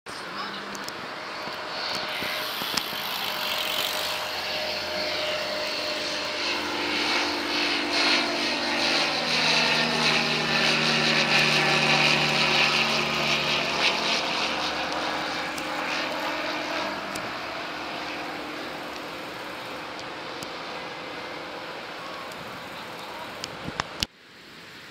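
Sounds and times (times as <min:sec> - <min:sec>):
light aircraft engine drone: 0:00.1 - 0:24.9.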